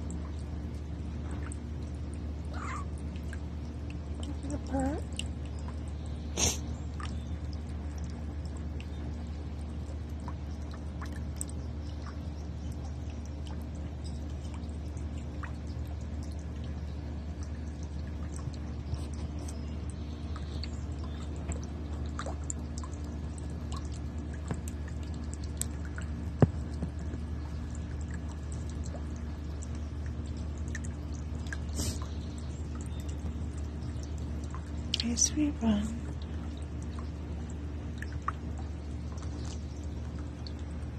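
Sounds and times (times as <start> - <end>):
fountain water trickling: 0.0 - 40.9
low hum: 0.0 - 40.9.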